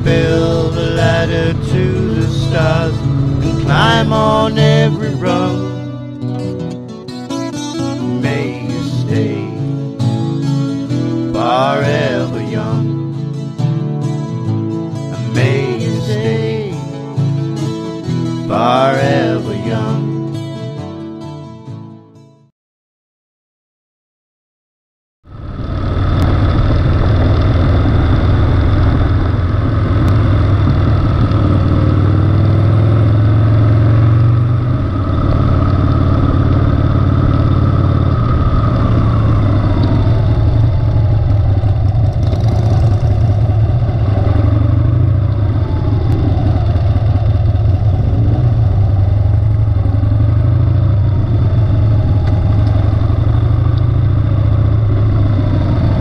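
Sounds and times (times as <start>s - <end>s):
motorcycle engine running: 0.0s - 20.3s, 25.3s - 56.0s.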